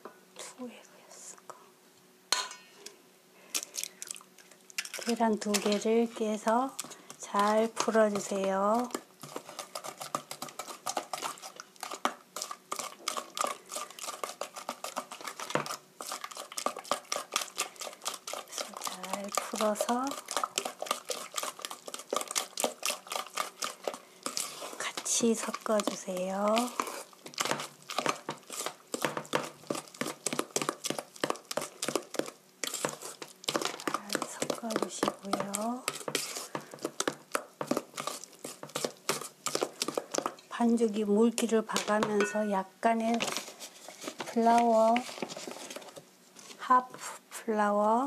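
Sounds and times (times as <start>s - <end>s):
wooden spatula scraping metal bowl: 4.8s - 47.1s.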